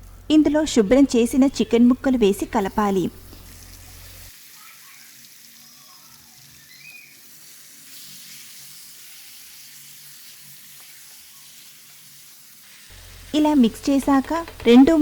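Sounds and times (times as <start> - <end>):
chicken sizzling in hot oil: 2.2 - 15.0.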